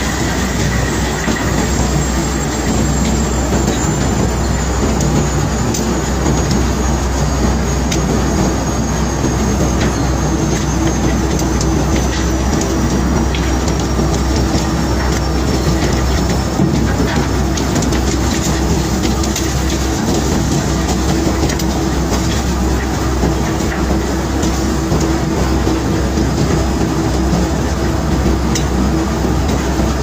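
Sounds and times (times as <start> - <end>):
unloading machinery rumbling: 0.0 - 30.0.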